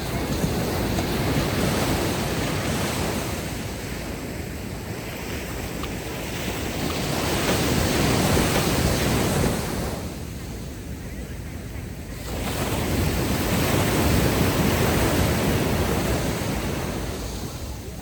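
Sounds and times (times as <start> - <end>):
ocean surf washing ashore: 0.0 - 18.0.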